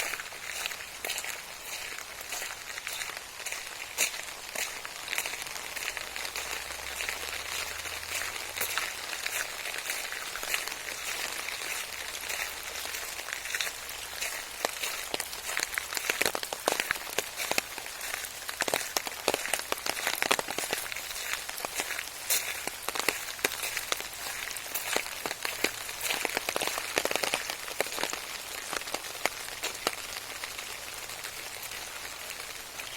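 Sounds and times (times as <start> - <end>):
raindrops ticking close by: 0.0 - 32.9
steady rain hiss: 0.0 - 32.9.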